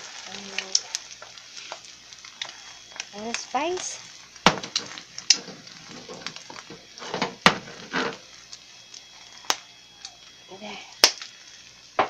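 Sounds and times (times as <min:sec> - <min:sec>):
egg sizzling on a griddle: 0:00.0 - 0:12.0.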